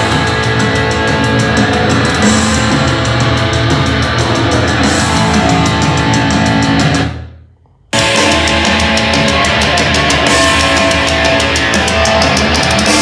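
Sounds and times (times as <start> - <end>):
loud rock music from speaker: 0.0 - 7.4, 8.0 - 13.0.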